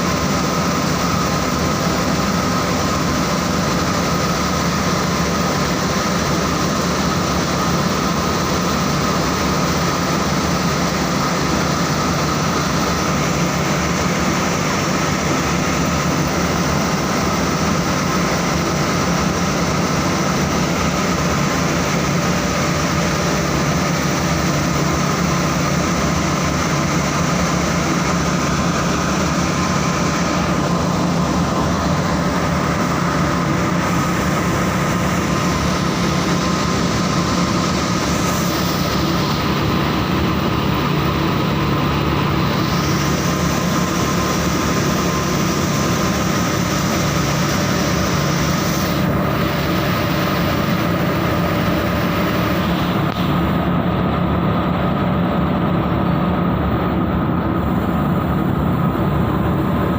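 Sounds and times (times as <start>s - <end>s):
carding machine whining and humming: 0.0s - 59.9s.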